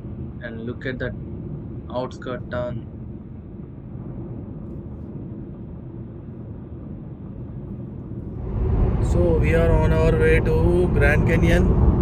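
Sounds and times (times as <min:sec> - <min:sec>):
car driving on highway: 0:00.0 - 0:12.0.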